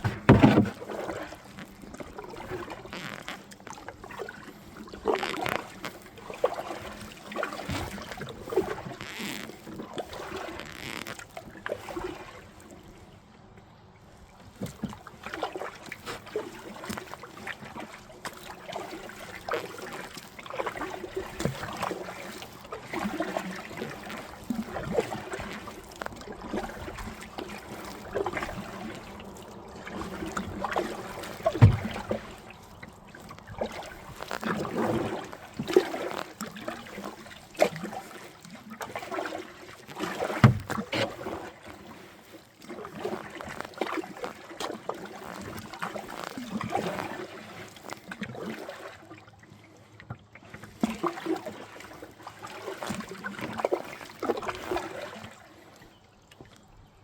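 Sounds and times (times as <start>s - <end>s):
paddle splashing water: 0.0s - 57.0s.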